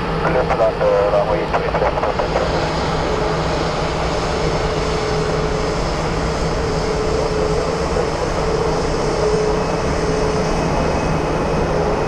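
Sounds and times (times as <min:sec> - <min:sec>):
jet engine drone with whine: 0:00.0 - 0:12.0.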